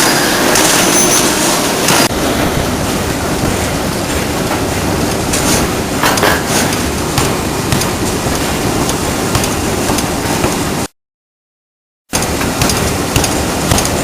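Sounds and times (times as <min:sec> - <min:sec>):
ring rolling machine running: 0:00.0 - 0:10.9, 0:12.1 - 0:14.0.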